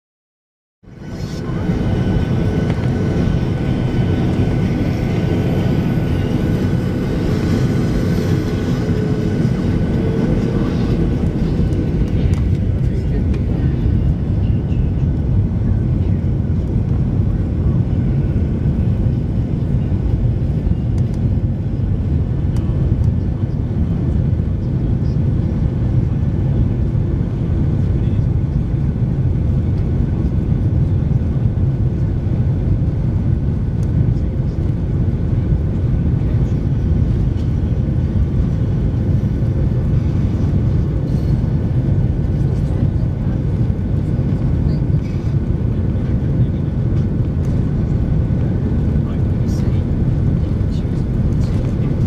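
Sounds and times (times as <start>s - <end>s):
jet engines and wheels rumbling: 0.8s - 52.0s.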